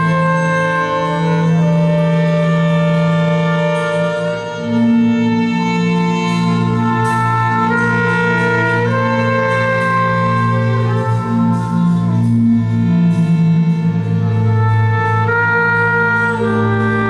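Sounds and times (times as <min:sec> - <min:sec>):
light ticking percussion: 0:00.0 - 0:17.0
trumpet and violins melody: 0:00.0 - 0:17.0.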